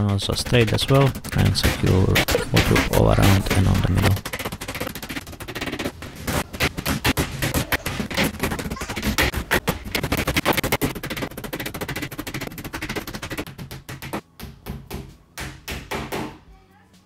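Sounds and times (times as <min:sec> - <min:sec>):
hammer driving nails: 0:00.2 - 0:14.2.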